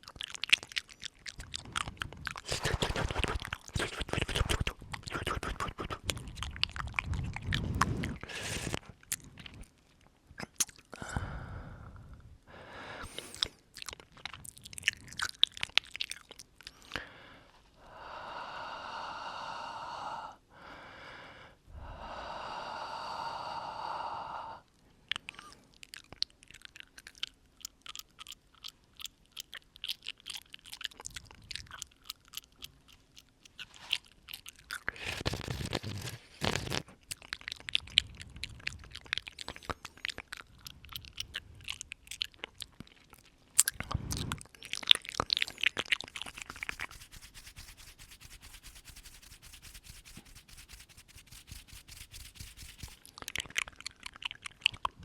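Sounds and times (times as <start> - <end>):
wet mouth clicks and smacks: 0.0 - 11.0, 13.0 - 17.1, 25.1 - 55.0.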